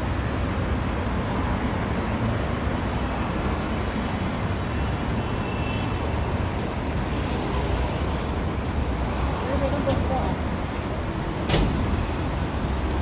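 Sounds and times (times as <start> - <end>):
steady road traffic rumble: 0.0 - 13.0.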